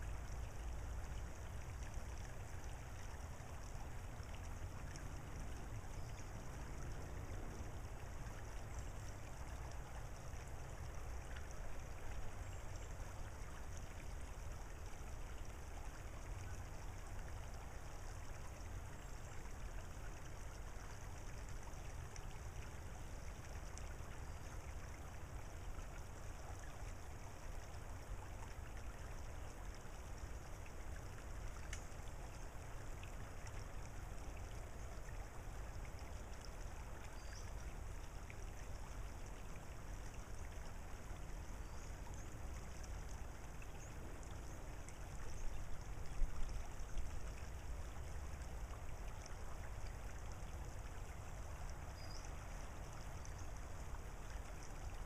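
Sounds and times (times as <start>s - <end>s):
creek trickling over gravel: 0.0s - 55.0s
low water rumble: 0.0s - 55.0s.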